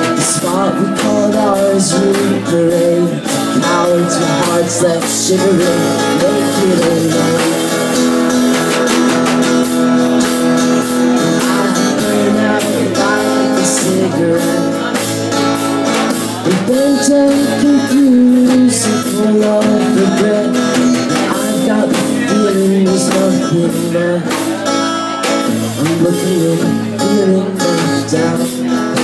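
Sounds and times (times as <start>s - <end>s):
acoustic guitar strumming: 0.0s - 29.0s
man singing: 0.0s - 29.0s.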